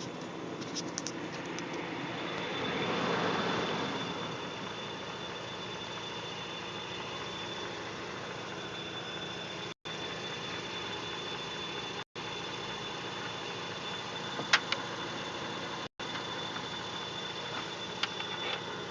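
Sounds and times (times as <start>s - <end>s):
car engine idling: 0.0s - 18.9s
high-pitched whine: 0.0s - 18.9s.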